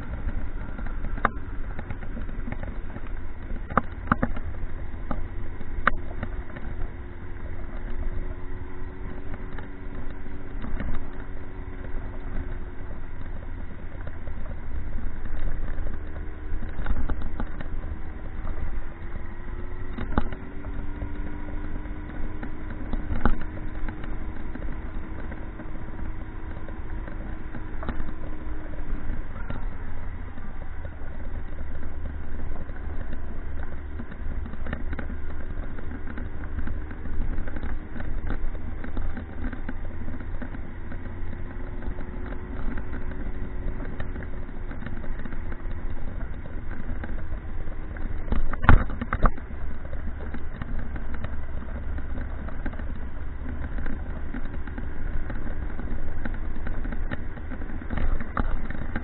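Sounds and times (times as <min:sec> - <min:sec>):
low wind rumble: 0:00.0 - 0:59.0
motorcycle engine cruising: 0:00.0 - 0:59.0.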